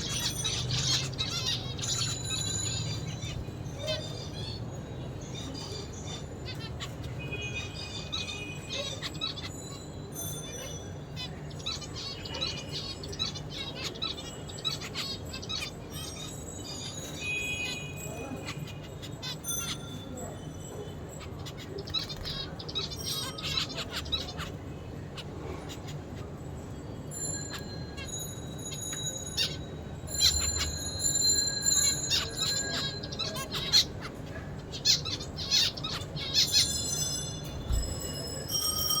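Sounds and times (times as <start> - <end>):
finch chirping song: 0.0 - 39.0.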